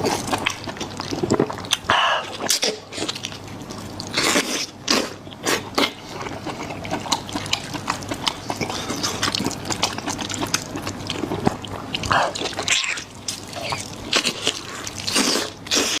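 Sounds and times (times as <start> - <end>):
chewing and wet mouth sounds: 0.0 - 16.0
noisy eating bursts: 0.0 - 16.0.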